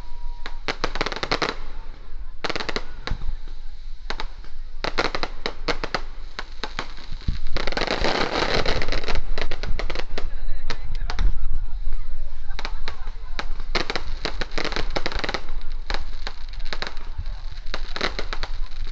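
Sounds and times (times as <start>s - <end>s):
firecrackers banging: 0.0s - 18.9s.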